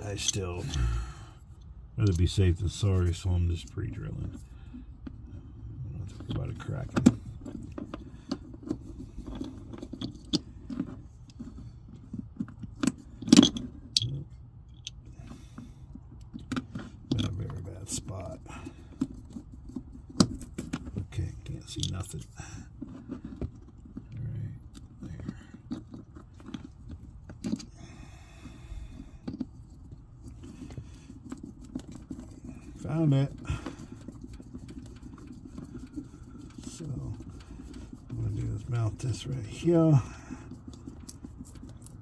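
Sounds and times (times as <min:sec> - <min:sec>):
hardware and tools handled: 0:00.0 - 0:14.1, 0:14.7 - 0:42.0.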